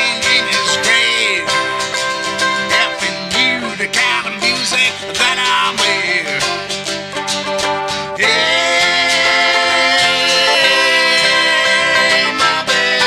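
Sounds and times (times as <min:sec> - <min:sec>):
person singing: 0:00.0 - 0:13.0
plucked acoustic strings: 0:00.0 - 0:13.0.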